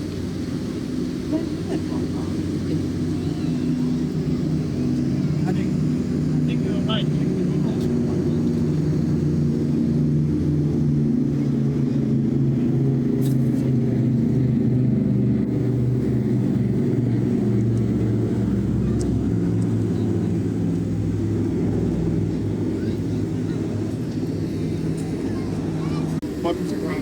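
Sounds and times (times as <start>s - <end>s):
engine drone: 0.0s - 27.0s.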